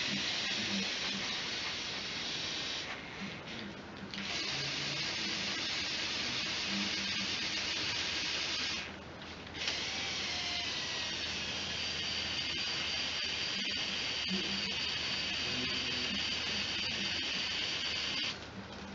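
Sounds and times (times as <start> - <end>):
toy electric motors whirring: 0.0 - 8.9, 9.6 - 18.4.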